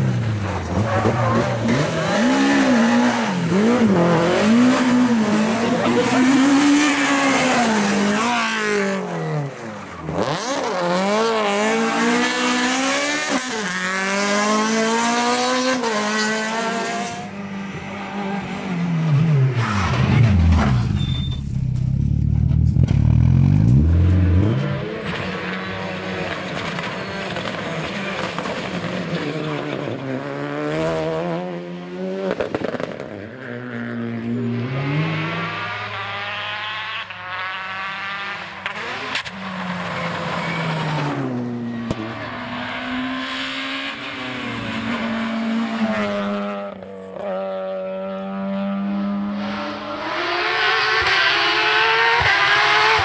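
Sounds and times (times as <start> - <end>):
rally car engines passing: 0.0 - 53.0.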